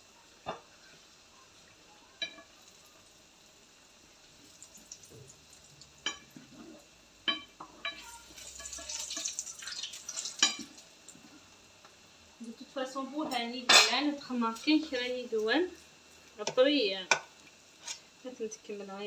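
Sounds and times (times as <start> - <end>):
food frying in hot oil: 0.0 - 19.0.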